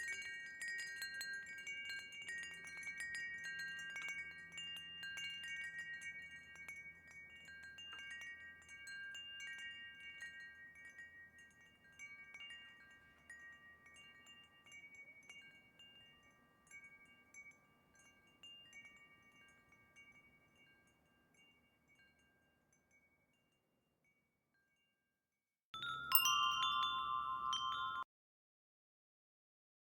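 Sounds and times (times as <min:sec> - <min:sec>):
wind chime ringing: 0:00.0 - 0:23.3, 0:25.8 - 0:28.1.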